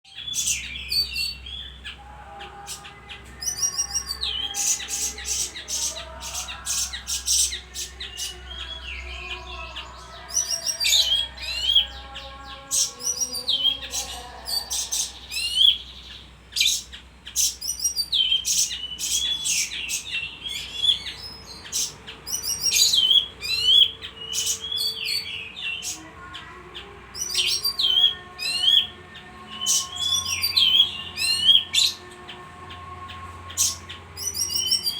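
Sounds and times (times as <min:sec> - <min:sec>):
songbird chirping and trilling: 0:00.0 - 0:34.9.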